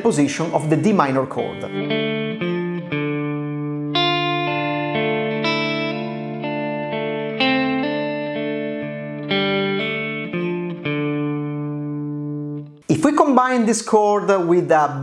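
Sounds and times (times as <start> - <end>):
electric guitar melody: 0.0 - 12.9.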